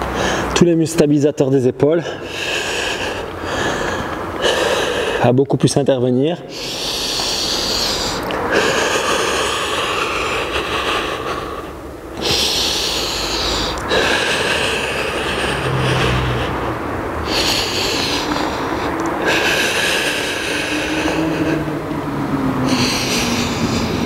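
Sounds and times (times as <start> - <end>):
man breathing hard: 0.0 - 0.6, 1.9 - 5.3, 6.4 - 24.0.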